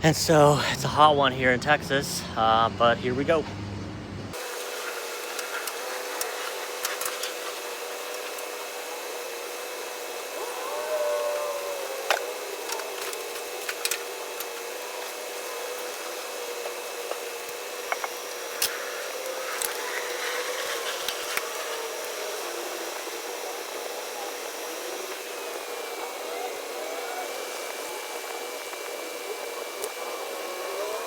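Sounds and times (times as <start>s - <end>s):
pressure washer running: 4.4s - 31.0s.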